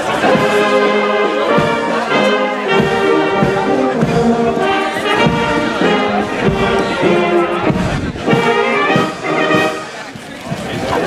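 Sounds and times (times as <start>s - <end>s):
brass band playing: 0.0s - 10.2s.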